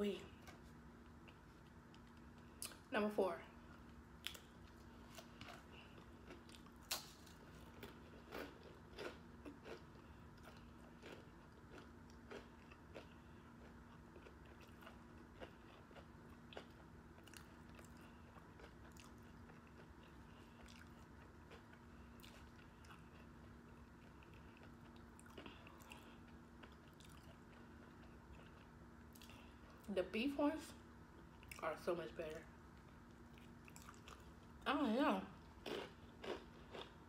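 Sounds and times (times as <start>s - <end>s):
faint steady hum: 0.0s - 37.0s
taco crunching and chewing: 0.3s - 2.8s, 3.6s - 29.9s, 32.7s - 34.6s, 35.3s - 37.0s.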